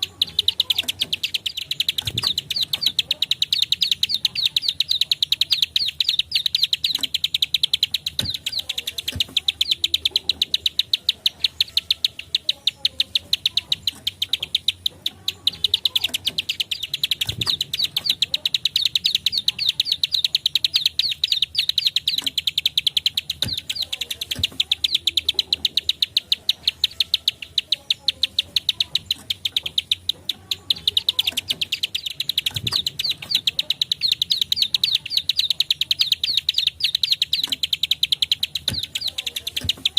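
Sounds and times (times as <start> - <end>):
bird sharp high clicking song: 0.0 - 39.9.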